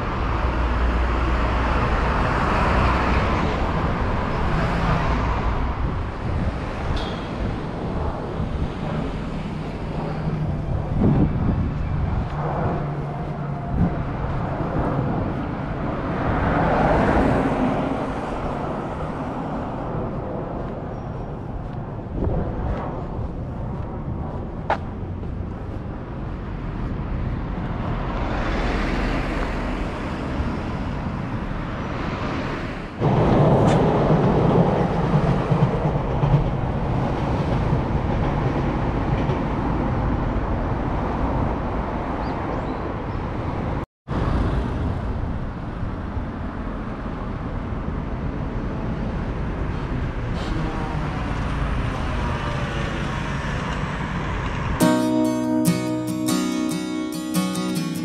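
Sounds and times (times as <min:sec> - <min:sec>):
passing vehicles rumbling: 0:00.0 - 0:58.0.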